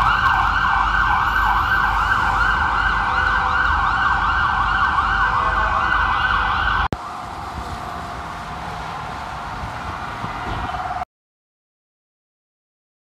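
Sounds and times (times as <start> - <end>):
ambulance siren yelping: 0.0 - 11.0
city traffic: 0.0 - 11.1.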